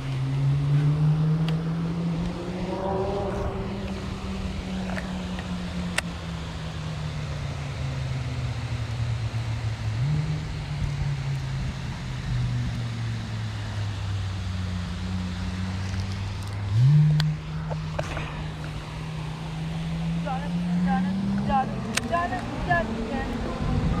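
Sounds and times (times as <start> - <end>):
distant motor engine running: 0.0 - 24.0.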